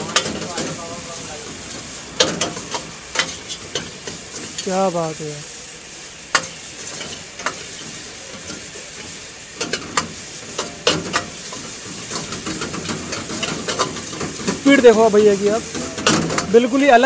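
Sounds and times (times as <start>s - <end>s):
ladle clanking and scraping pan: 0.0s - 4.7s, 6.3s - 16.8s
vegetables sizzling in a wok: 0.0s - 17.0s.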